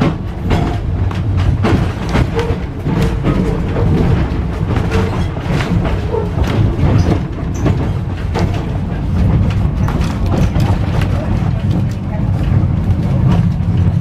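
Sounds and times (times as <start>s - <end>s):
tram rumbling along track: 0.0s - 14.0s
wheels clicking on rails: 0.0s - 14.0s.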